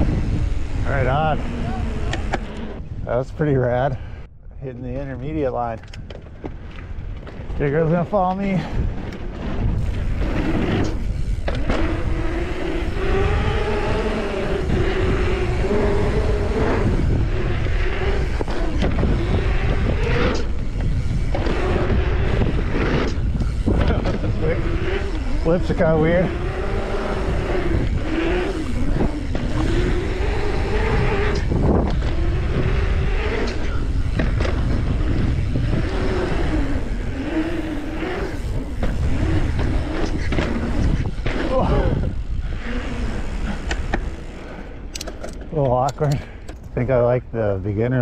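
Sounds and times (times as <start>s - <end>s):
bike tyres humming on pavement: 0.0s - 48.0s
wind rumble on microphone: 0.0s - 48.0s.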